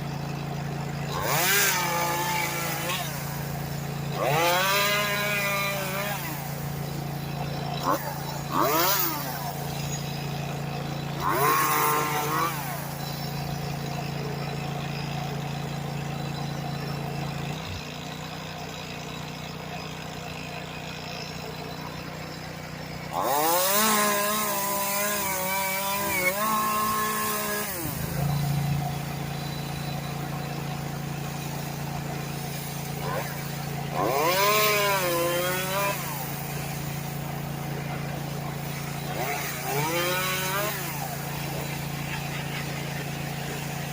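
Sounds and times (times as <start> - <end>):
chainsaw engine revving: 0.0 - 43.9.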